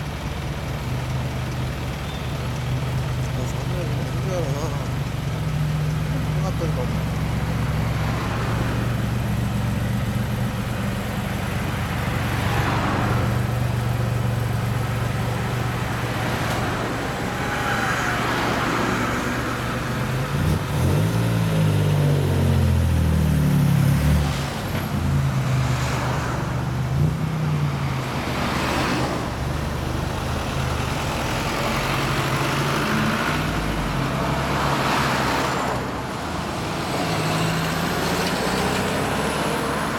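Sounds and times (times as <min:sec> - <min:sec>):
car exhaust idling and revving: 0:00.0 - 0:39.9.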